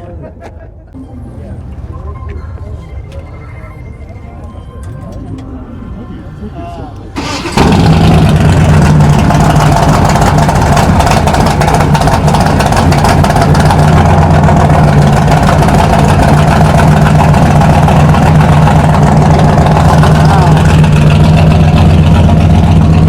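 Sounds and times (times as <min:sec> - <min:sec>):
truck engine idling: 0:00.9 - 0:23.0.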